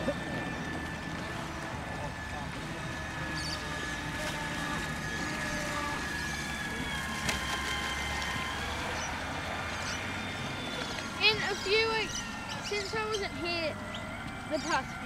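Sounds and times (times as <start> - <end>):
low background rumble: 0.0 - 15.0
model boat motor whining: 0.0 - 15.0.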